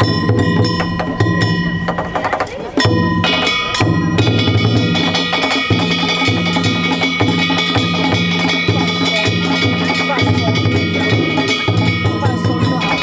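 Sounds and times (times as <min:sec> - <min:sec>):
large drum beating a rhythm: 0:00.0 - 0:13.0
small gongs clanging: 0:00.0 - 0:13.0.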